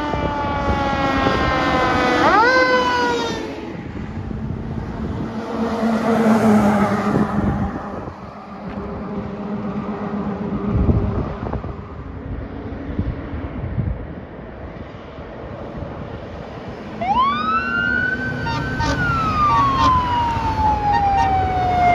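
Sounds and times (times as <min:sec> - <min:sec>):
fire engine driving past: 0:00.0 - 0:21.9
road traffic: 0:00.0 - 0:21.9.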